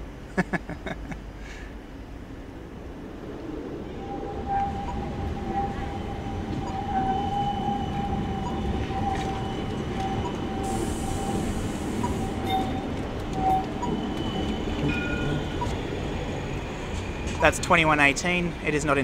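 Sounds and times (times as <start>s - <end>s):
tram high whine: 0.0s - 19.0s
tram low rumble: 0.0s - 19.0s.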